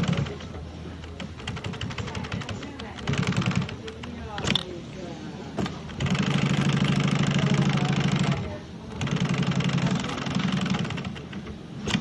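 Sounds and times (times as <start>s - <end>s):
sewing machine stitching: 0.0s - 4.7s, 5.6s - 12.0s.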